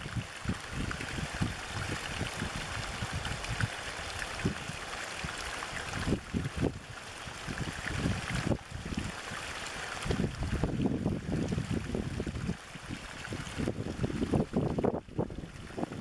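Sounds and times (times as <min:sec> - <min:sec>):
small water splashes: 0:00.0 - 0:16.0
stream pouring over rocks: 0:00.0 - 0:16.0.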